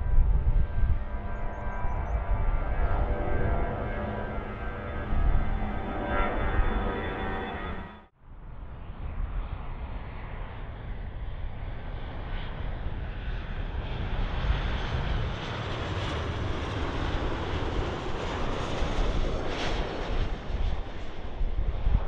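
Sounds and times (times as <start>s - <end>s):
aircraft engines roaring: 0.0s - 22.0s.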